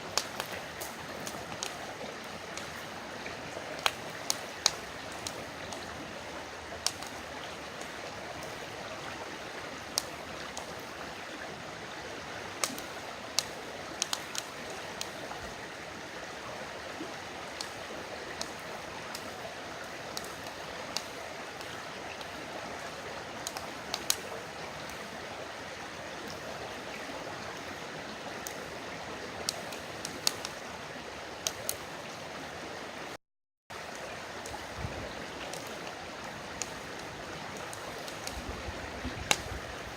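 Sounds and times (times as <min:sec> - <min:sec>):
campfire crackling and popping: 0:00.0 - 0:16.1, 0:16.8 - 0:32.3, 0:33.7 - 0:39.9
river water flowing: 0:00.0 - 0:39.9.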